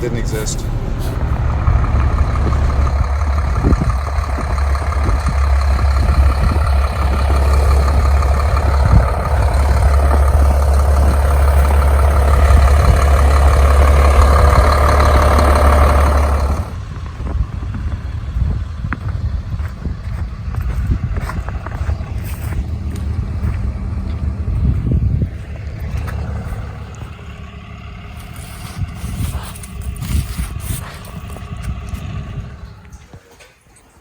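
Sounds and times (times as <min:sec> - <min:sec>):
heavy vehicle engine humming: 0:00.0 - 0:33.4.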